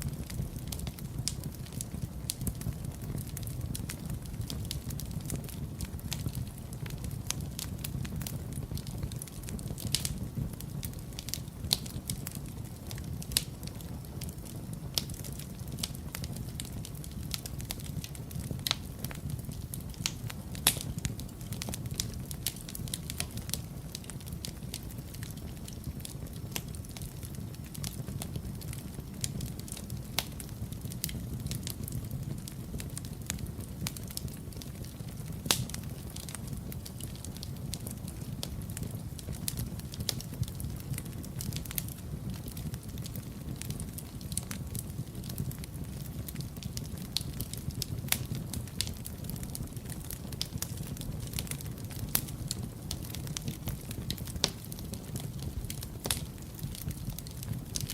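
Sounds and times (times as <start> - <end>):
fireplace fire crackling: 0.0 - 57.9.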